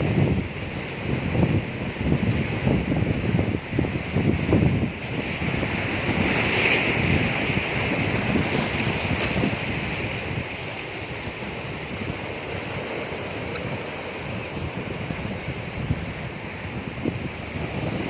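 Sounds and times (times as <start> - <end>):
sea waves washing on shore: 0.0 - 18.0
wind gusting on microphone: 0.0 - 18.0.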